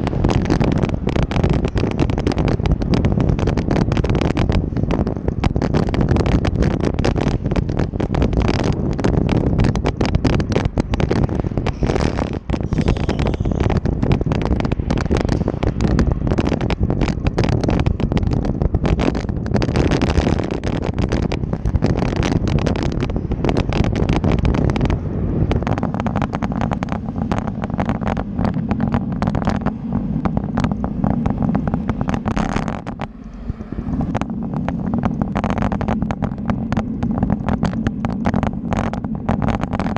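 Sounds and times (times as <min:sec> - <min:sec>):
constant dense rattle: 0:00.0 - 0:39.9
wind buffeting microphone: 0:00.0 - 0:39.9.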